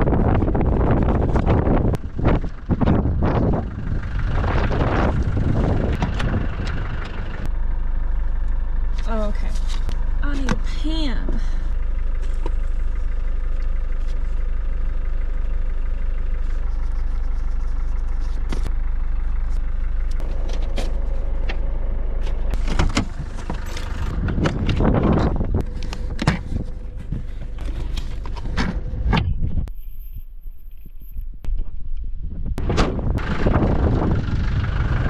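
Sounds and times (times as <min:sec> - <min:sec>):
vehicle running rumble: 0:00.0 - 0:35.0.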